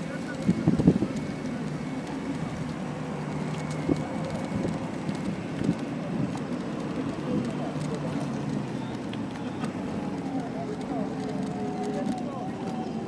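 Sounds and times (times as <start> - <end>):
faint motor hum: 0.0 - 13.0
wheels rolling on pavement: 0.0 - 13.0.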